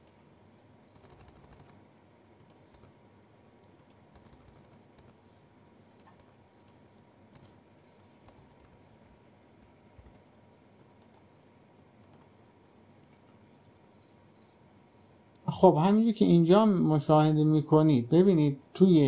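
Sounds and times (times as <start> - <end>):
faint keyboard typing: 0.0 - 15.6.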